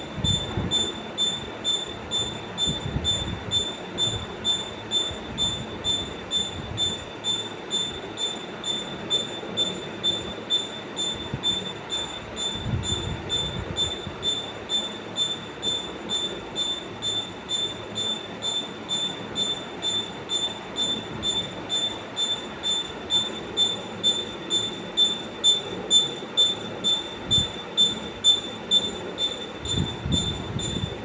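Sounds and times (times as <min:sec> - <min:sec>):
pulsing high-pitched squeal: 0:00.0 - 0:31.0.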